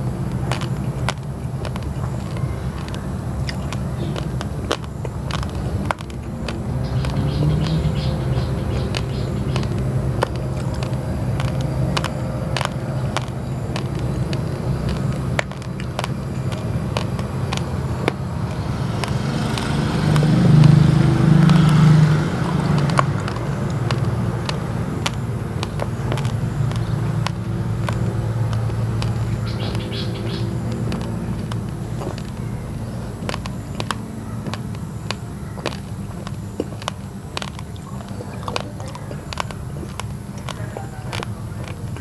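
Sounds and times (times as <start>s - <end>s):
rice crunching between teeth: 0.0s - 42.0s.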